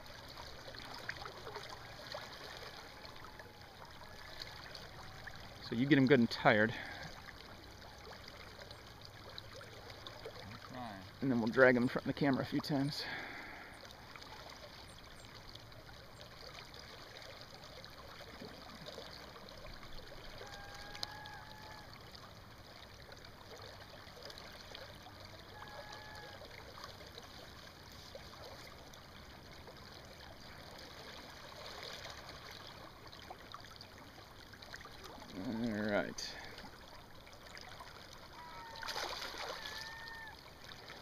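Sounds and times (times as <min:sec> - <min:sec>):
river water rushing: 0:00.0 - 0:11.3, 0:12.6 - 0:41.0.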